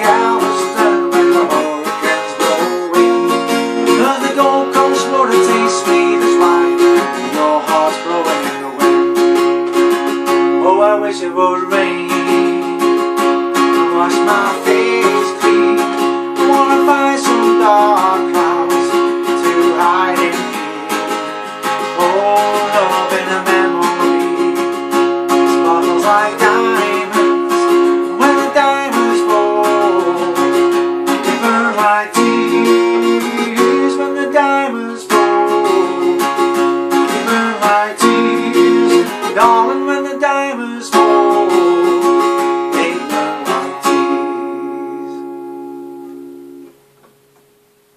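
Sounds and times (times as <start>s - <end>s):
acoustic guitar strumming and picking: 0.0s - 47.9s.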